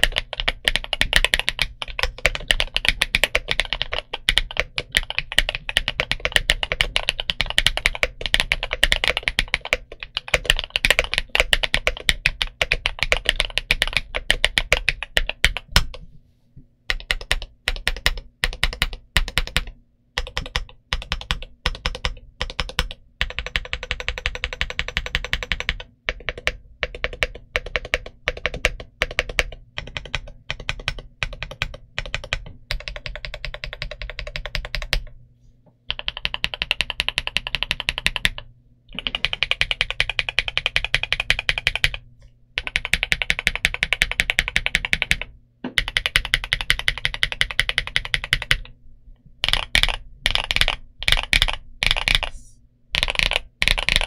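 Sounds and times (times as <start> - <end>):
mechanical keyboard typing: 0.0 - 16.0, 16.9 - 35.2, 35.9 - 42.0, 42.6 - 48.7, 49.4 - 54.0.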